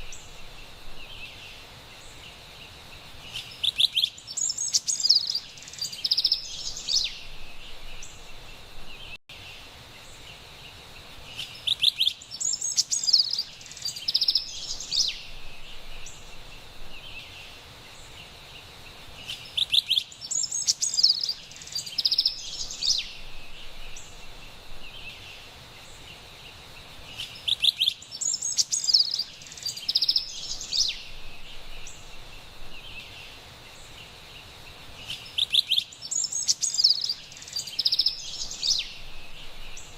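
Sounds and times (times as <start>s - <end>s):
faint forest ambience hiss: 0.0s - 39.9s
wren singing: 3.2s - 9.2s, 11.3s - 39.9s.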